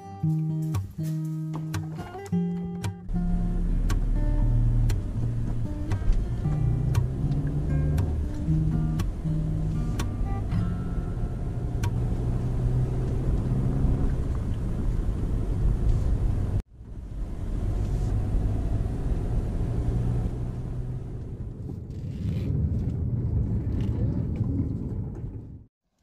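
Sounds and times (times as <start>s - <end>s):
car road and engine rumble: 0.3s - 25.8s.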